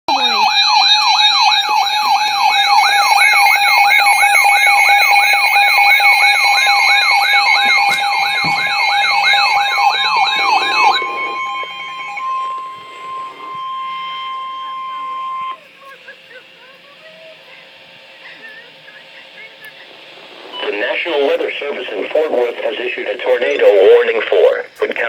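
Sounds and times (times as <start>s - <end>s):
sweeping siren alert tone: 0.1s - 22.6s
steady tones: 0.1s - 23.7s.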